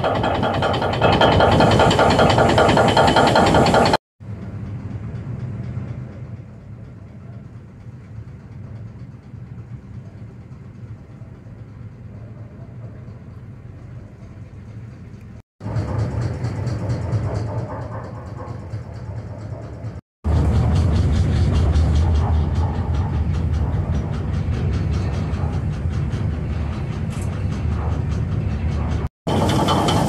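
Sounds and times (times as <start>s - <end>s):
loud engine rumble: 0.0s - 30.0s
low engine drone: 0.0s - 30.0s.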